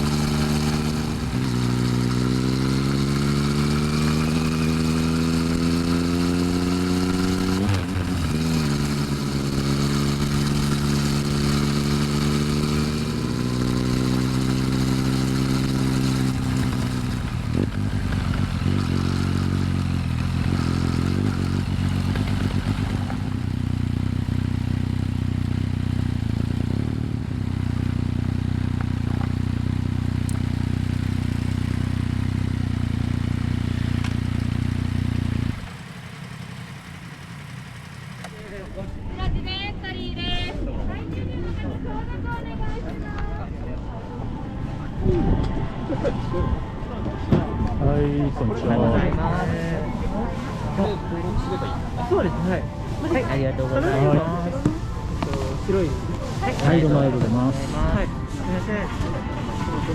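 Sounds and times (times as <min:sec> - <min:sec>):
motorcycle engine revving and idling: 0:00.0 - 0:59.9.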